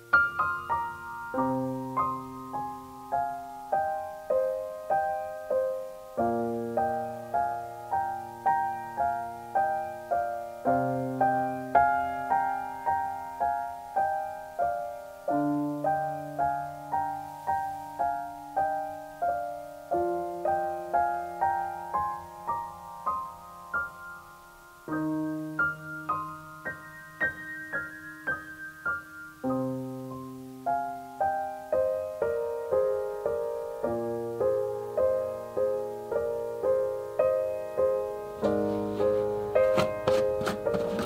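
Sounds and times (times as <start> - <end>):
gentle piano music: 0.0 - 41.0.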